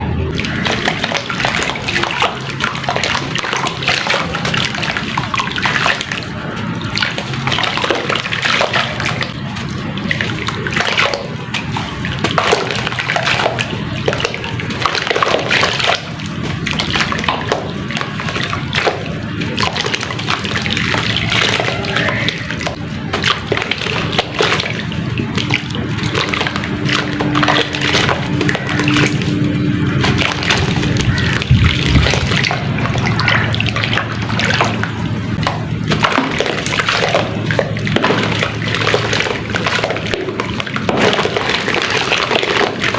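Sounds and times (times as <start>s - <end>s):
water sloshing and splashing: 0.0s - 42.9s.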